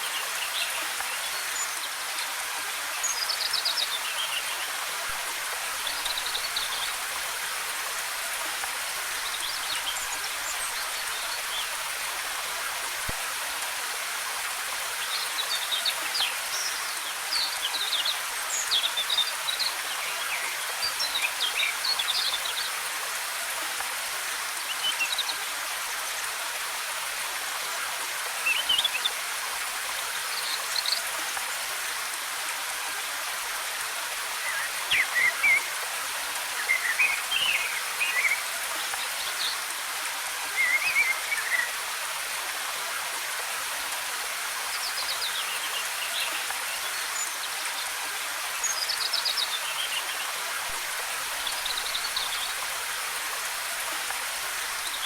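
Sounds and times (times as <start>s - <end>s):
waterfall cascading water: 0.0s - 55.0s.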